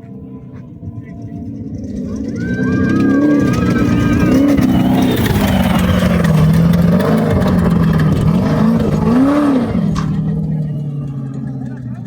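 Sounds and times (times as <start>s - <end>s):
mechanical and dirt noise: 0.0s - 12.0s
race vehicle engine revving: 0.0s - 12.0s.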